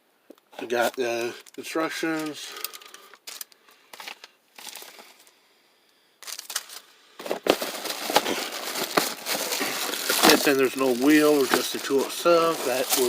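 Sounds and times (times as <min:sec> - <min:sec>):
packaging rustling and crinkling: 0:00.6 - 0:05.3, 0:06.2 - 0:13.0.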